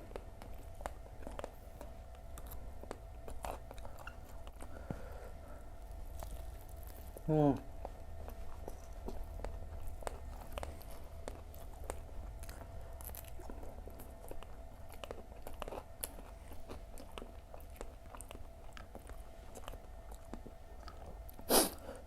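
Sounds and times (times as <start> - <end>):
person chewing crunchy food: 0.0 - 22.0
steady low hum: 0.0 - 22.0.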